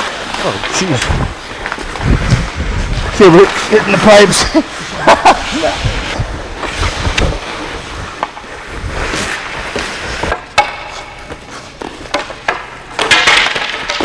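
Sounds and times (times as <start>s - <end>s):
skate blades scraping ice: 0.0s - 14.0s.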